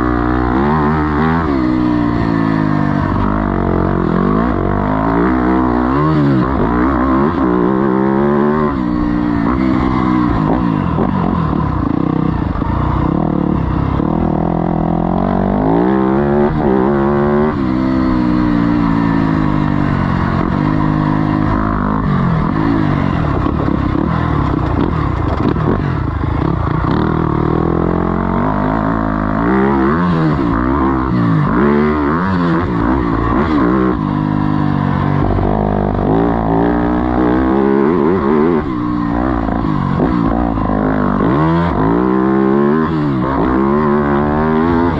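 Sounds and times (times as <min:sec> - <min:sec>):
motocross engine revving: 0:00.0 - 0:44.9.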